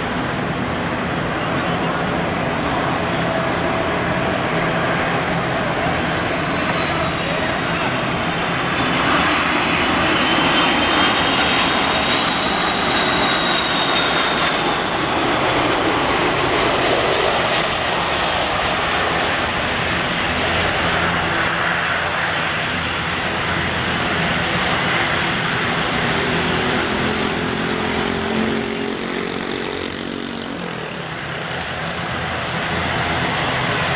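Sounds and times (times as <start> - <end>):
high jet fan whine: 0.0 - 33.9
steady jet noise: 0.0 - 33.9.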